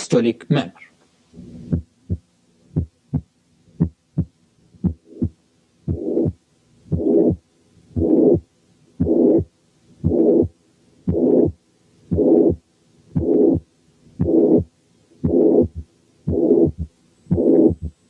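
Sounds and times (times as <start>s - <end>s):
heartbeat with murmur: 1.4s - 18.0s.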